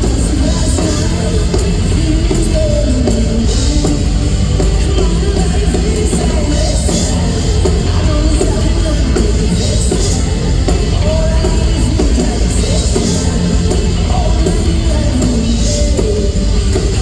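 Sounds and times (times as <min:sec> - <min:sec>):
pop-rock band playing live: 0:00.0 - 0:17.0.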